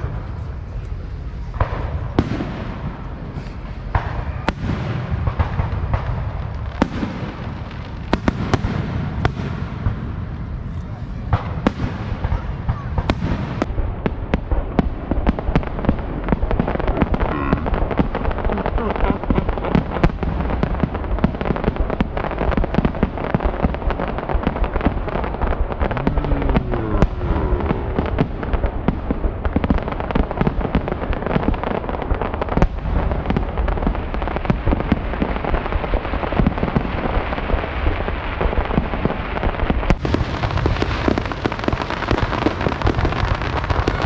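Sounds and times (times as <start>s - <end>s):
fireworks crackling and banging: 0.0s - 44.0s.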